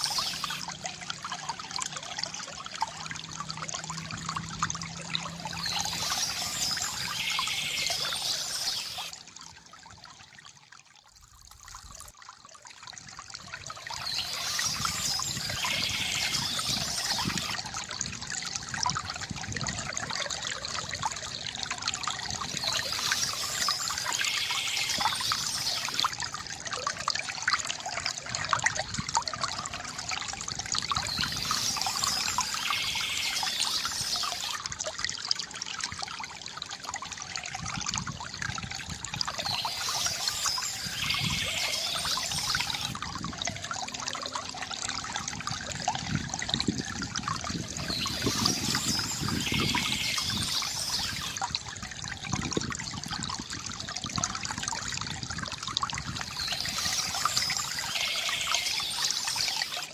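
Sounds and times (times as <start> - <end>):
water trickling from bamboo fountain: 0.0 - 59.9.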